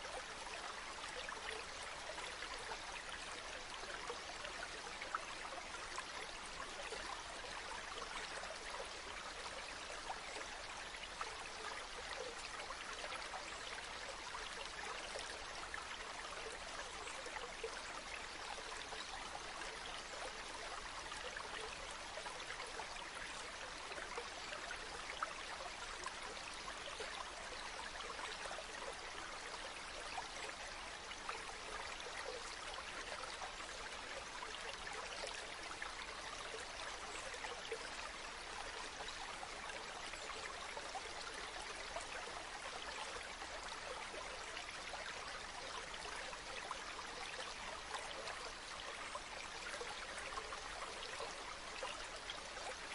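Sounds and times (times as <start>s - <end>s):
river water flowing: 0.0s - 52.9s.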